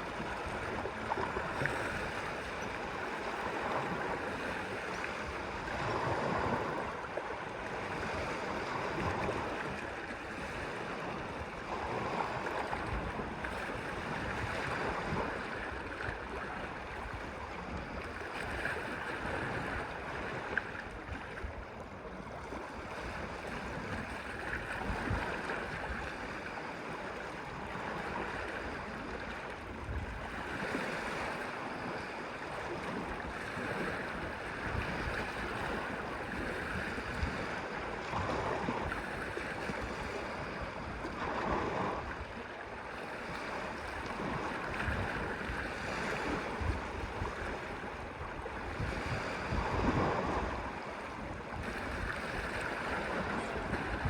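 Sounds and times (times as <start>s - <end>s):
waves washing on shore: 0.0s - 54.0s
wind on microphone: 0.0s - 54.0s.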